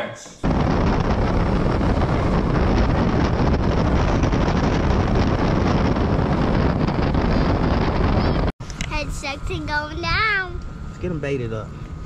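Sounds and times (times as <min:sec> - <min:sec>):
wind blowing across microphone: 0:00.4 - 0:12.0.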